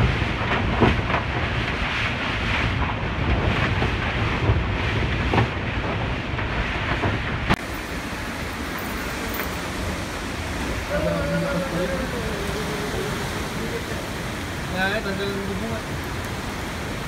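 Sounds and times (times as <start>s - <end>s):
strong wind gusting: 0.0s - 17.0s
wind rumble on microphone: 0.0s - 17.0s.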